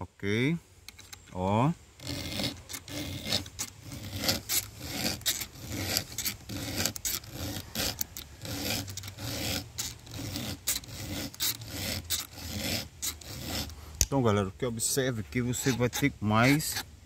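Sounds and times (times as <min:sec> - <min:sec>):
file rasping on chainsaw chain: 0:02.0 - 0:14.1, 0:14.8 - 0:16.9.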